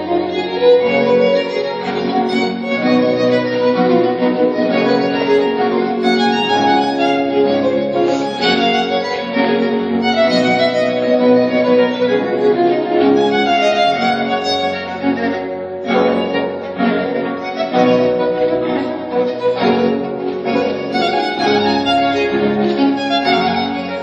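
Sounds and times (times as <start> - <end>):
instrumental dance music on strings: 0.0 - 24.0.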